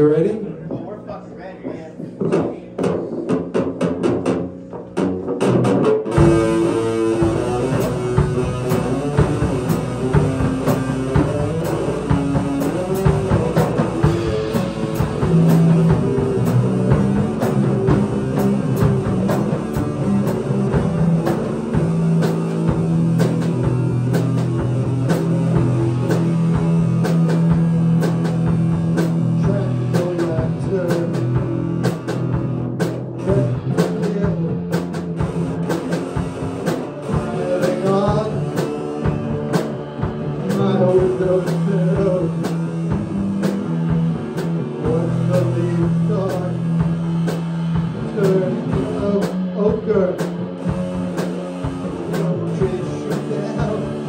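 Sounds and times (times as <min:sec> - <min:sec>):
bass guitar: 0:00.0 - 0:54.0
drum kit: 0:00.0 - 0:54.0
electric guitar: 0:02.2 - 0:54.0.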